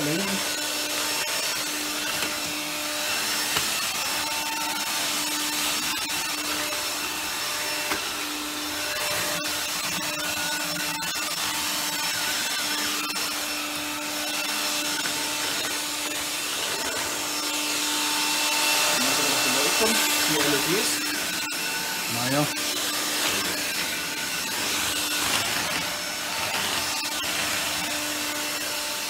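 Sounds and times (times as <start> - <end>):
stick vacuum running on carpet: 0.0 - 29.0.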